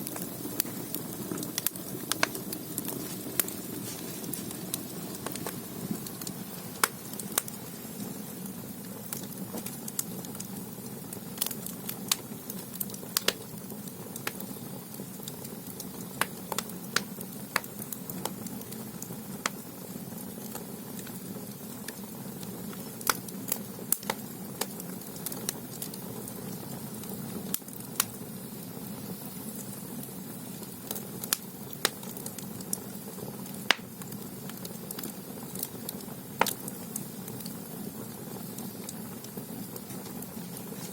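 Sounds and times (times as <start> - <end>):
firewood popping and crackling: 0.0 - 28.2, 29.5 - 40.9
low rumble of fire: 0.0 - 40.9.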